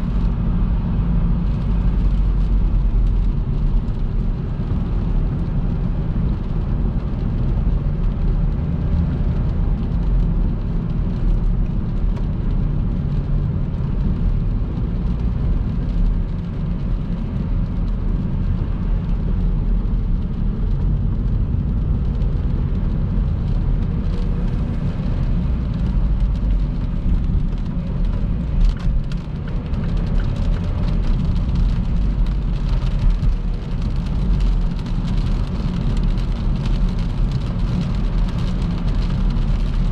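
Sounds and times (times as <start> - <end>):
car tyre and wind noise: 0.0 - 39.9.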